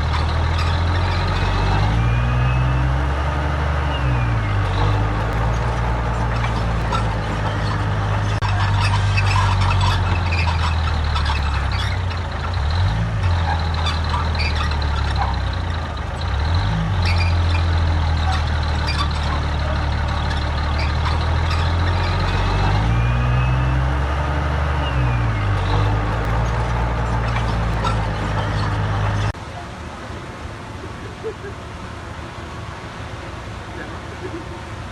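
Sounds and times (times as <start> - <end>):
heavy diesel engine under load: 0.0 - 34.9.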